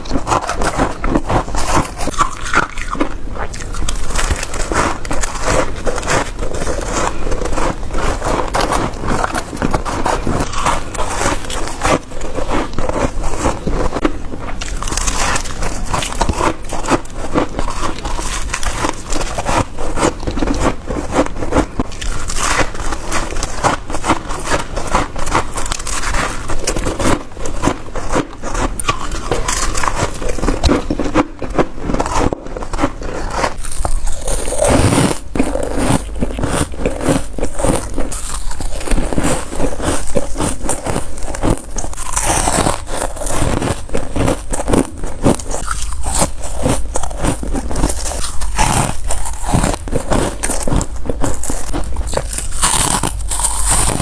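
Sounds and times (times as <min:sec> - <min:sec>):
crunching frost: 0:00.0 - 0:54.0.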